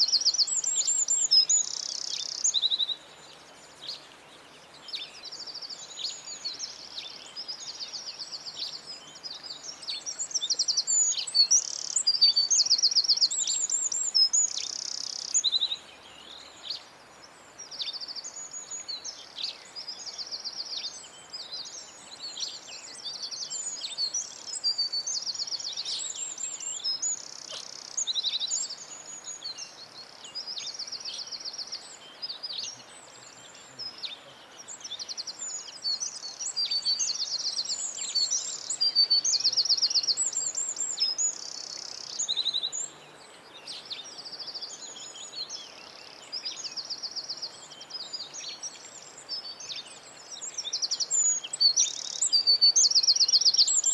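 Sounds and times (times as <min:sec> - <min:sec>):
faint steady hiss: 0:00.0 - 0:53.9
songbirds singing: 0:00.0 - 0:53.9.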